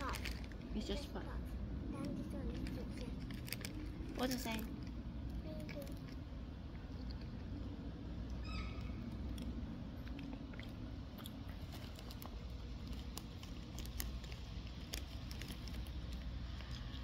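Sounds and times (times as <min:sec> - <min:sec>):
crisps crunching and chewing: 0:00.0 - 0:00.7, 0:02.0 - 0:08.4, 0:09.0 - 0:17.0
low rumble: 0:00.0 - 0:17.0.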